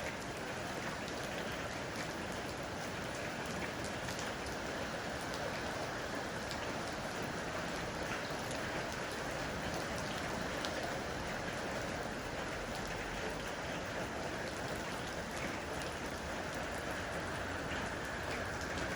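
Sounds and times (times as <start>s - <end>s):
heavy rain on air conditioner unit: 0.0s - 18.9s.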